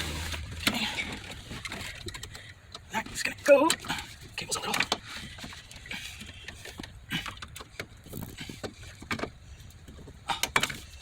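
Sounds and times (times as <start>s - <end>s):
small metallic clicks and knocks: 0.4s - 11.0s.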